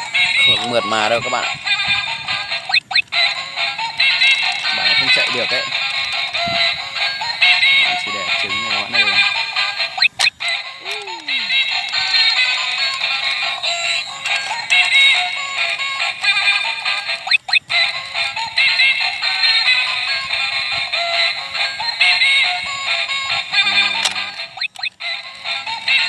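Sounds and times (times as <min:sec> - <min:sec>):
toy playing tinny electronic song: 0:00.0 - 0:26.0.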